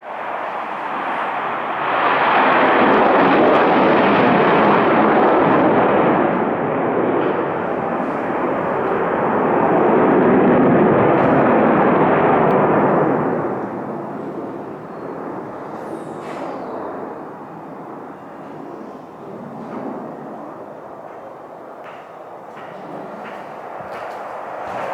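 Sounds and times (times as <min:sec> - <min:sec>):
fighter jet engines roaring: 0:00.0 - 0:24.9.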